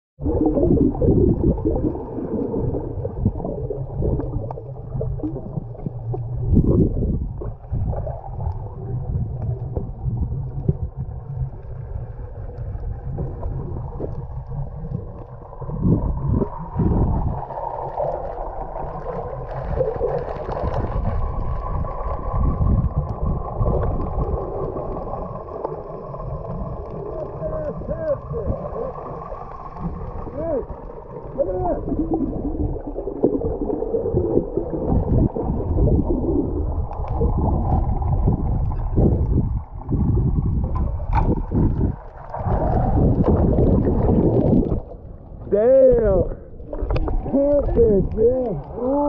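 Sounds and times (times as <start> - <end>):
muffled water gurgling and sloshing: 0.2 - 49.0
uneven low rumble: 0.2 - 49.0.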